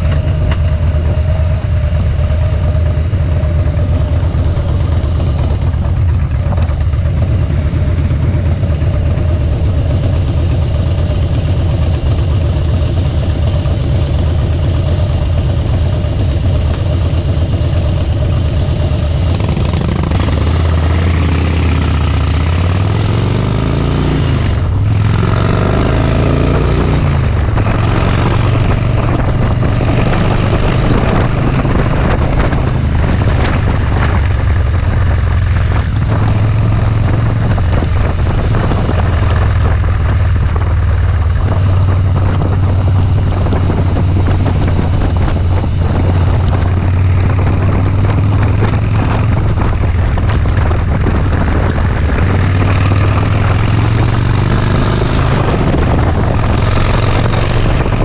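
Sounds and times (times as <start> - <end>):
motorcycle accelerating: 0.0 - 58.0
motorcycle engine running: 0.0 - 58.0.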